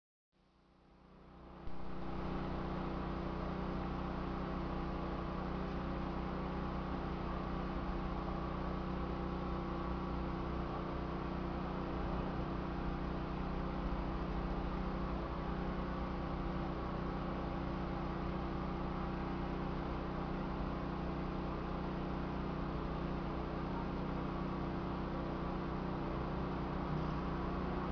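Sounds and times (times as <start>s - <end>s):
low machine hum with hiss: 0.4s - 27.9s.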